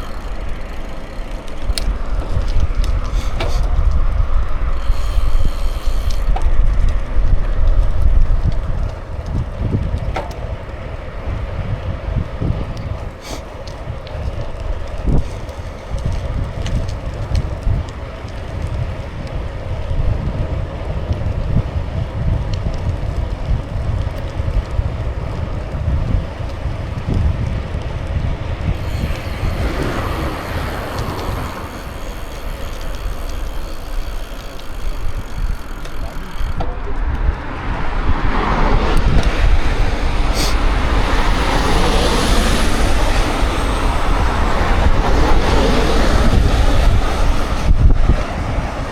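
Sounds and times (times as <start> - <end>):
bicycle tyres rolling: 0.0 - 48.9
wind buffeting microphone: 0.0 - 48.9.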